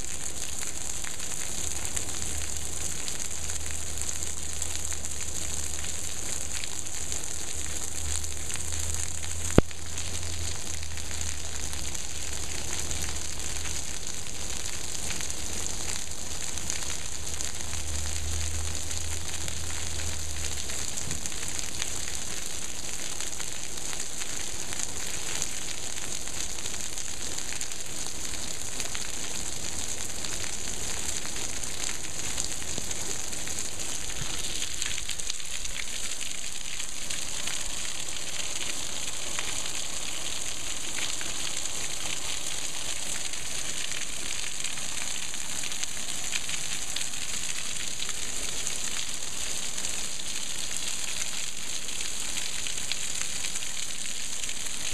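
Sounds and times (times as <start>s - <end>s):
heavy rain hissing: 0.0s - 54.9s
large raindrops crackling: 0.0s - 54.9s.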